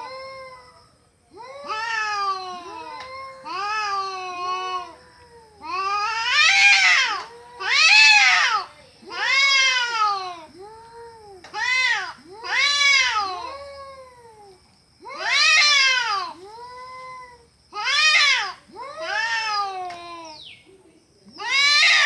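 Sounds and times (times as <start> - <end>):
cats yowling: 0.0 - 20.4, 21.4 - 22.0.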